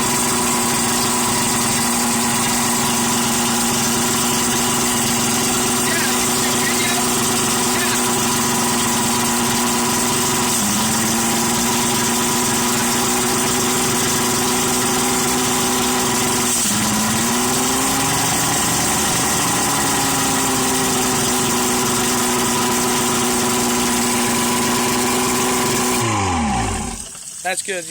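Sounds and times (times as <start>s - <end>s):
boat motor idling: 0.0s - 27.9s.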